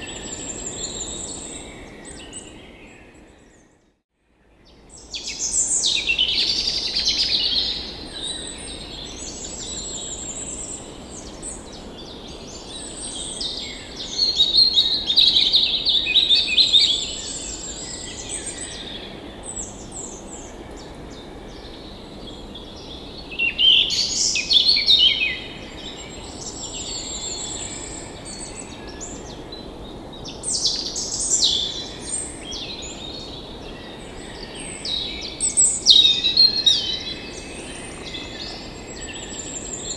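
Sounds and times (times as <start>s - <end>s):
songbirds singing and chirping: 4.6s - 39.9s.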